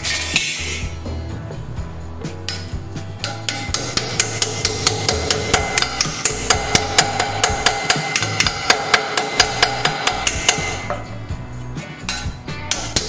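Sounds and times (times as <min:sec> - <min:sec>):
hammer striking metal: 0:00.0 - 0:01.0, 0:02.4 - 0:11.3, 0:12.0 - 0:13.0.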